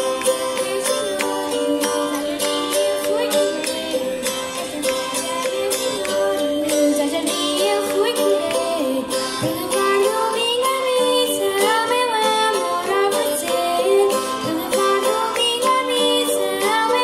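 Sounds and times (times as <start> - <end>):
strummed small guitars: 0.0 - 17.0
voices singing together: 0.0 - 17.0.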